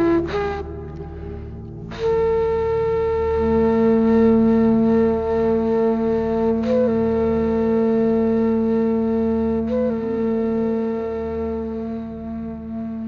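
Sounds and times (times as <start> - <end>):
flute holding long note: 0.0 - 13.0
lower held tone: 0.0 - 13.0.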